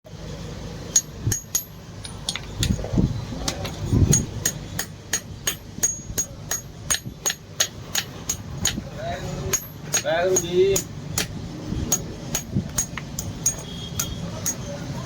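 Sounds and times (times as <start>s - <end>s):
hammer striking steel on anvil: 0.9s - 2.8s, 4.1s - 14.7s.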